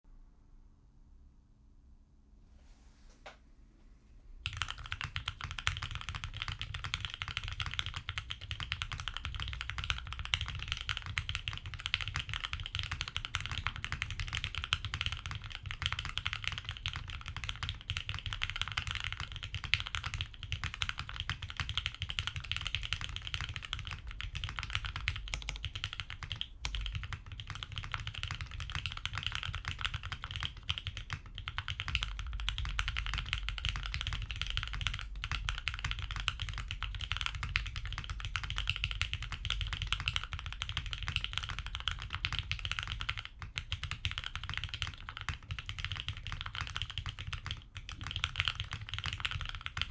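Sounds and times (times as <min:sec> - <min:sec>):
fast mechanical keyboard typing: 0:04.4 - 0:49.9.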